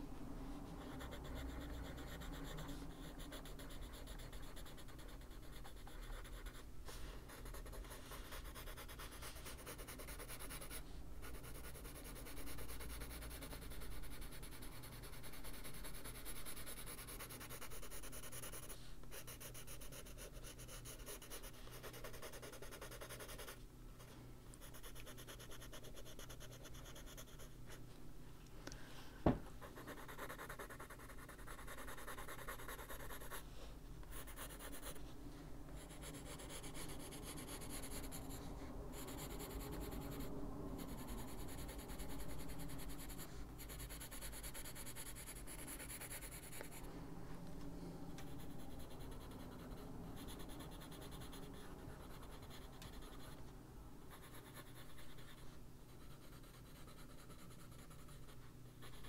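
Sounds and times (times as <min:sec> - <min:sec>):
pencil scratching on paper: 0:00.8 - 0:23.6, 0:24.6 - 0:27.6, 0:29.6 - 0:33.4, 0:34.1 - 0:35.0, 0:35.8 - 0:46.9, 0:48.3 - 0:53.4, 0:54.1 - 0:59.0.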